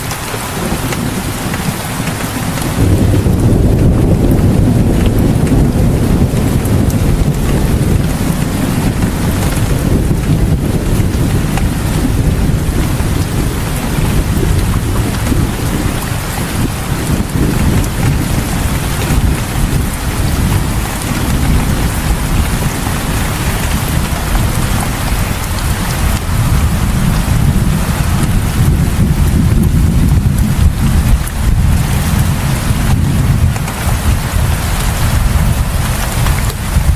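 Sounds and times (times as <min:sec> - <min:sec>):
deep continuous rumble: 0:00.0 - 0:36.9
heavy rain falling: 0:00.0 - 0:36.9.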